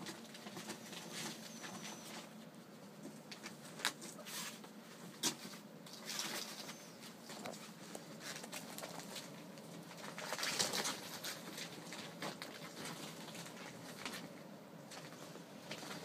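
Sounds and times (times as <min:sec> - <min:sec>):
ferrets scrabbling among plastic balls: 0:00.0 - 0:16.0.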